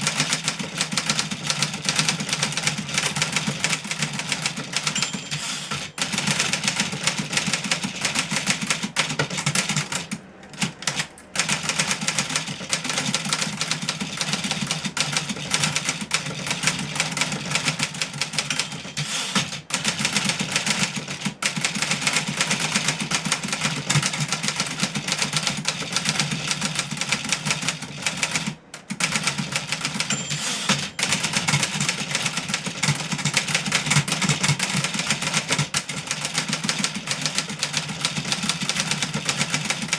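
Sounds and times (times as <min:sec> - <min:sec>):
typewriter keys striking: 0:00.0 - 0:39.9.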